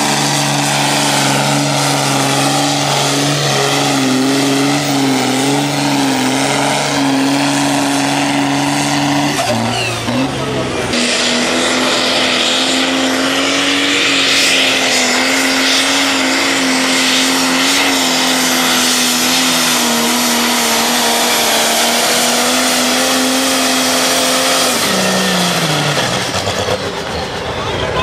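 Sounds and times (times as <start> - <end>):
diesel engine at full throttle: 0.0 - 28.0.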